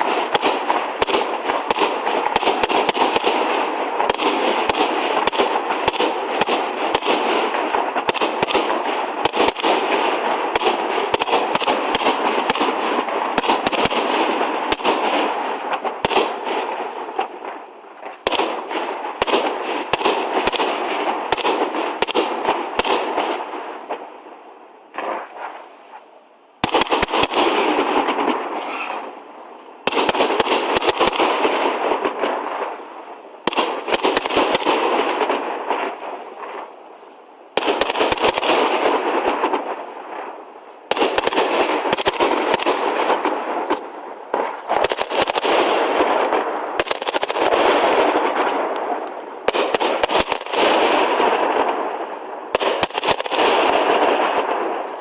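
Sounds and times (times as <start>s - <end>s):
firework bursts: 0.0s - 55.0s
firework crackle: 0.0s - 55.0s.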